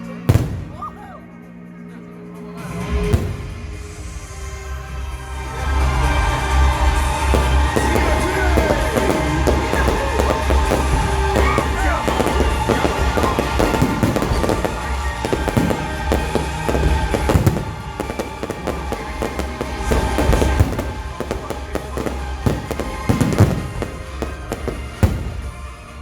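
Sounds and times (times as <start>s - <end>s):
fireworks crackling and banging: 0.3s - 1.1s, 2.8s - 26.0s.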